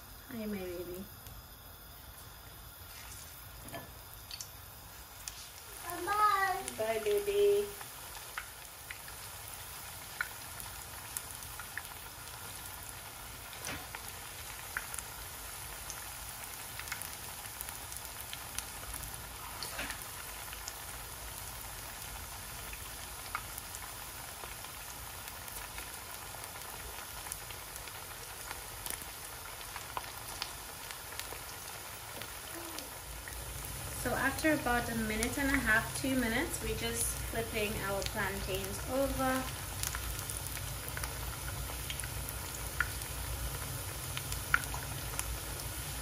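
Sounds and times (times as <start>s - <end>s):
food sizzling in oil: 0.0s - 46.0s.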